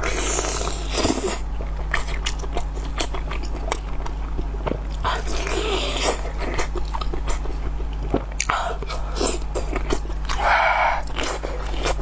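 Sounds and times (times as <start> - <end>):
person chewing and smacking: 0.0 - 12.0.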